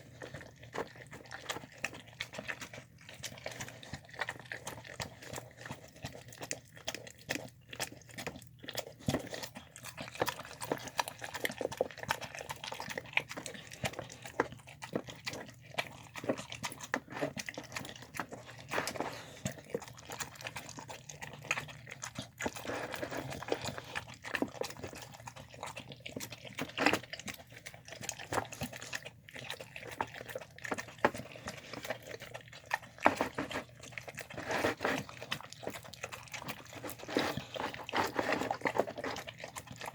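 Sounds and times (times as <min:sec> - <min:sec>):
dog chewing food: 0:00.0 - 0:39.9.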